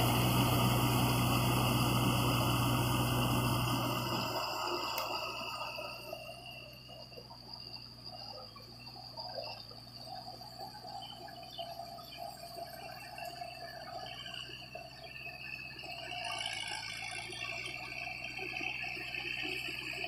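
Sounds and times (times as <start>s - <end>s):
tiller churning water and mud: 0.0s - 20.0s
tractor engine humming: 0.0s - 20.0s.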